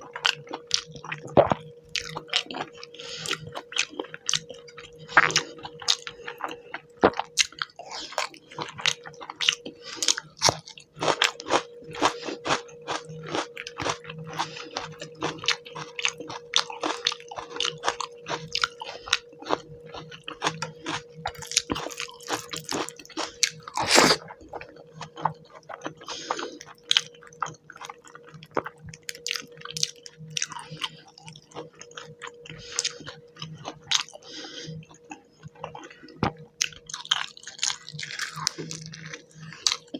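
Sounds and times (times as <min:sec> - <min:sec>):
faint steady hum: 0:00.0 - 0:39.9
close-miked wet chewing: 0:05.1 - 0:39.9.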